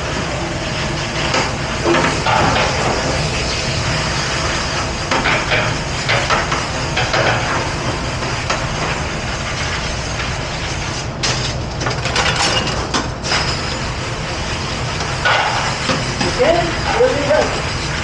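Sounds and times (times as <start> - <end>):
dish room noise: 0.0 - 18.0.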